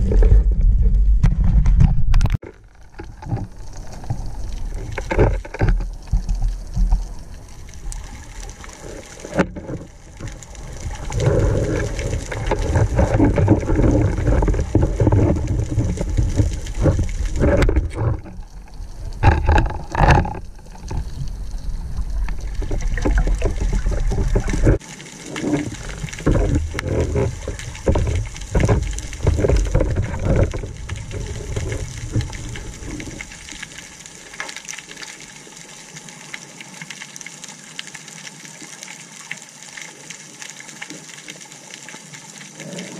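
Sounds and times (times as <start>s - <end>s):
underwater water rushing: 0.0s - 42.9s.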